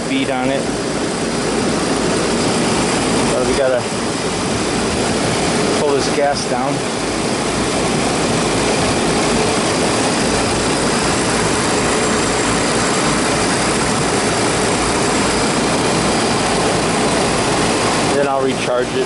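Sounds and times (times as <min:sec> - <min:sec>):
compressor and fan drone: 0:00.0 - 0:19.0.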